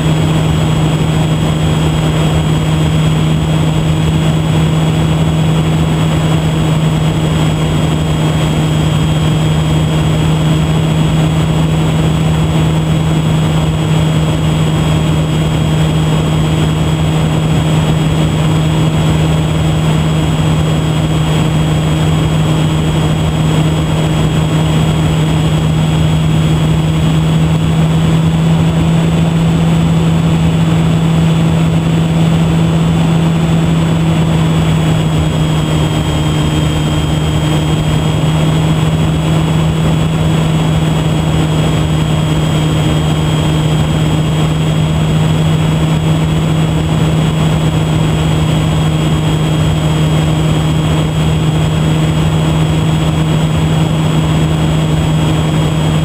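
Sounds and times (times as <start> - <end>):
electric motor and propeller drone: 0.0 - 56.0
wind rushing over microphone: 0.0 - 56.0.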